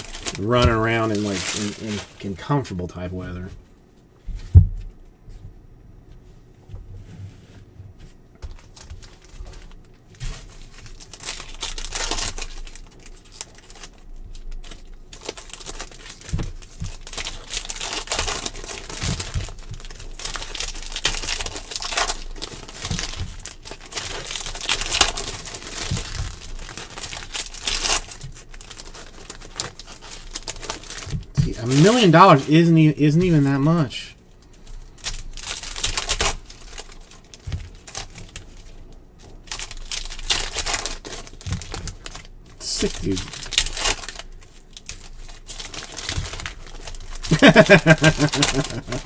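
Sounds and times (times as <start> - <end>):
foil wrappers crinkling and tearing: 0.0 - 3.5, 8.4 - 49.0.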